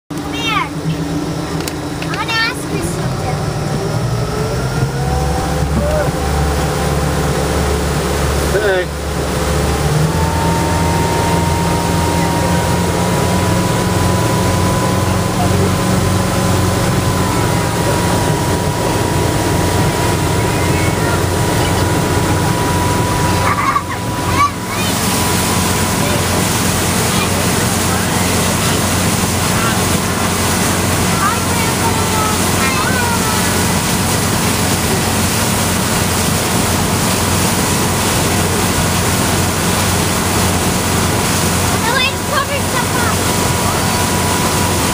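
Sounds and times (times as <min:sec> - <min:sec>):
motorboat engine: 0:00.1 - 0:44.9
thin steady whine: 0:00.1 - 0:44.9
wind and water rushing: 0:00.2 - 0:44.9.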